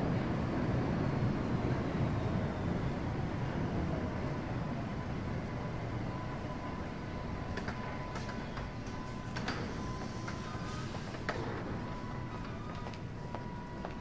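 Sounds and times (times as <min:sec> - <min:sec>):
thin steady whine: 0:00.0 - 0:14.0
train rumbling: 0:00.0 - 0:14.0.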